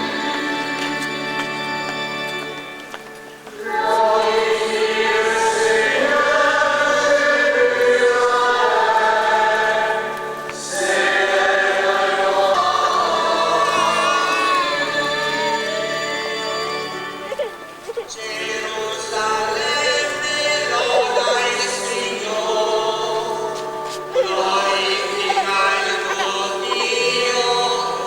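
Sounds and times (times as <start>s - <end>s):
choir singing a hymn: 0.0s - 2.4s, 3.4s - 28.0s.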